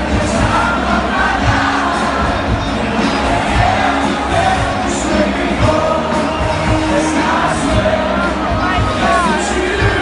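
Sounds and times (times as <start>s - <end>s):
loud party music with singing: 0.0s - 10.0s.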